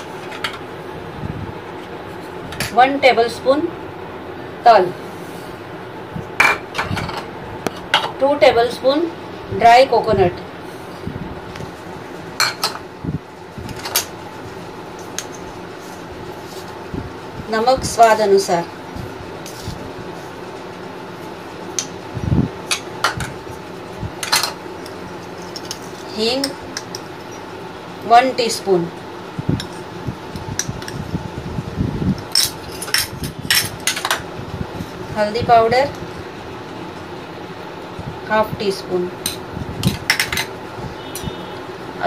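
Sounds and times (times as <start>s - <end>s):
fan hum: 0.0s - 42.0s.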